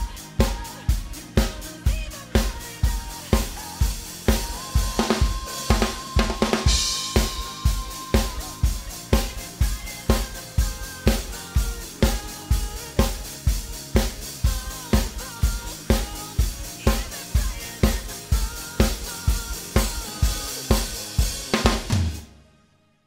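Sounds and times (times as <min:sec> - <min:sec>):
drum kit rock beat: 0:00.0 - 0:22.3
backing track music: 0:00.0 - 0:22.8.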